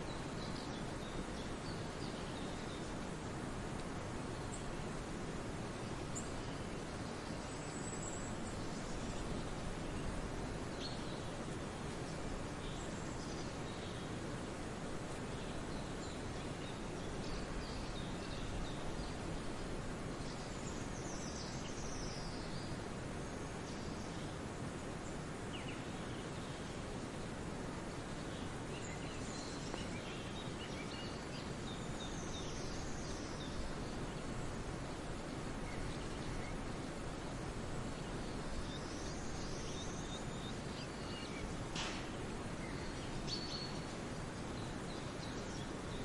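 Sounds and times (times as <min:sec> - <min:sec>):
steady rush of background noise: 0:00.0 - 0:46.0.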